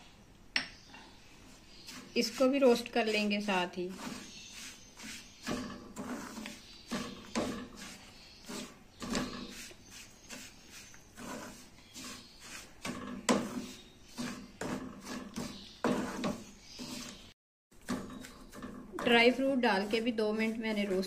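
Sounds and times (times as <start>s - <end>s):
spatula scraping a metal pan: 1.5s - 21.0s.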